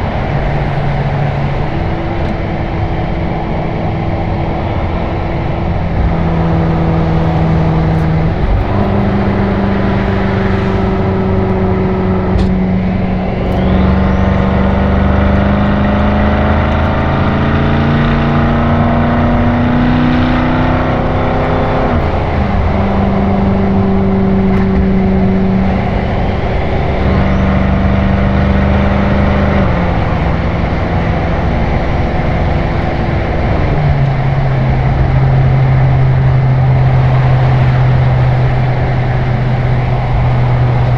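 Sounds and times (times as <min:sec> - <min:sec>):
car exhaust note cruising: 0:00.0 - 0:40.9
tyre and road noise: 0:00.0 - 0:40.9.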